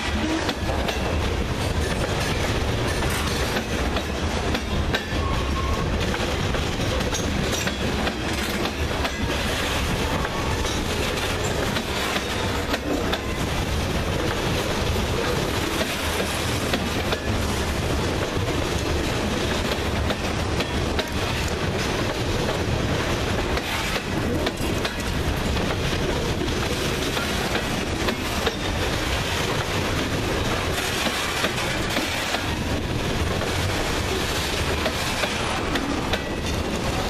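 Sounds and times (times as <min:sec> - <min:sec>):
train wheels rumbling on rail: 0:00.0 - 0:37.0
wheels clickety-clack: 0:00.0 - 0:37.0.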